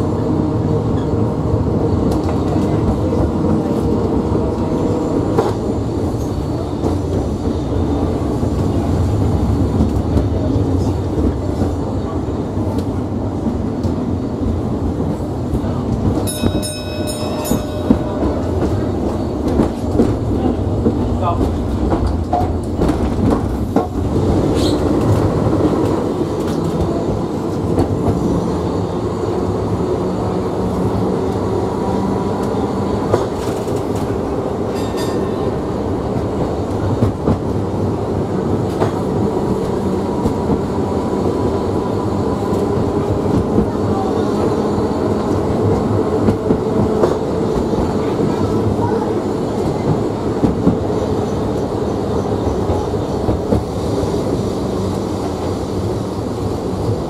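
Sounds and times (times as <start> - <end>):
tram wheels rumbling on rail: 0.0 - 57.0.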